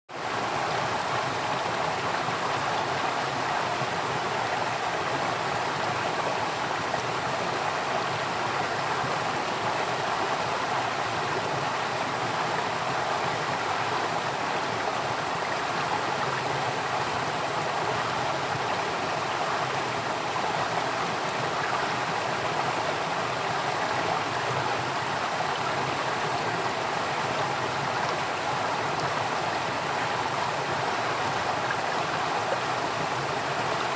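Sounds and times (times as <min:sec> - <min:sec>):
flowing water rushing: 0:00.1 - 0:33.9.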